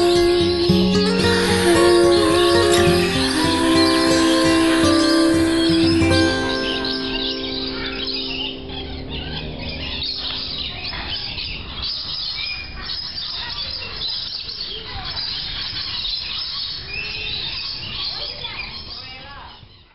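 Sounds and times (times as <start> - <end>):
whistled bird notes: 0.0 - 19.2
birds chirping: 0.0 - 19.9.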